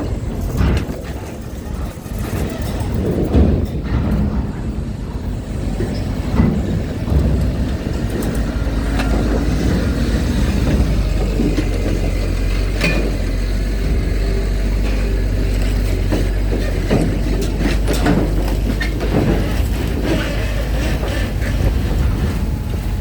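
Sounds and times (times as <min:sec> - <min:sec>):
heavy vehicle engines rumbling: 0:00.0 - 0:23.0.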